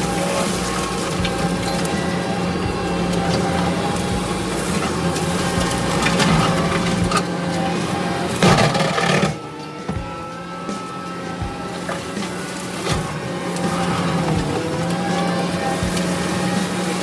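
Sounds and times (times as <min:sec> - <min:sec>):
brush cutter shredding wood: 0:00.0 - 0:17.0
diesel engine running: 0:00.0 - 0:17.0
wood cracking: 0:00.0 - 0:17.0.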